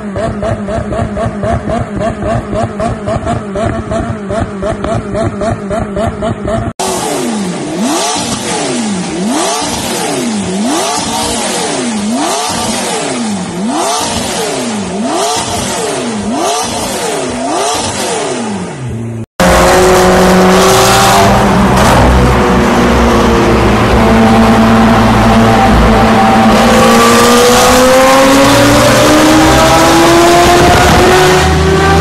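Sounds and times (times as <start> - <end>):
car engine revving: 0.0 - 32.0
steady car engine note: 0.0 - 32.0.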